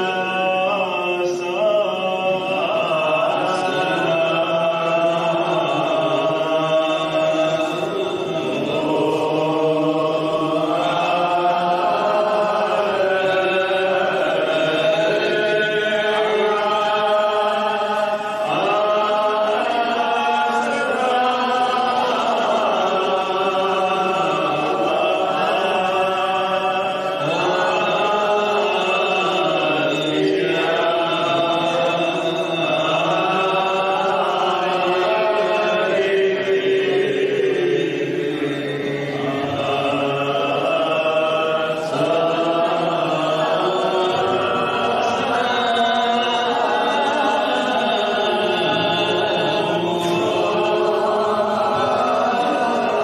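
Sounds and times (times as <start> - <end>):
man chanting into a microphone: 0.0 - 53.0.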